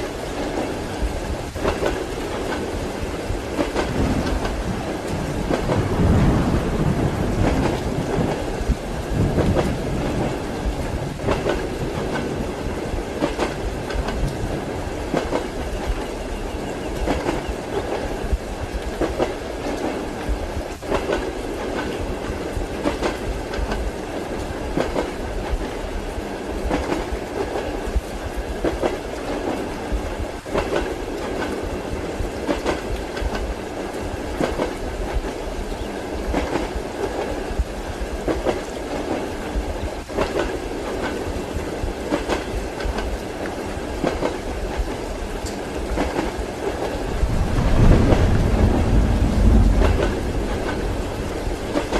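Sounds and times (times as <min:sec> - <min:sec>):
train rumble: 0:00.0 - 0:51.9
train wheels clacking on rails: 0:00.0 - 0:51.9.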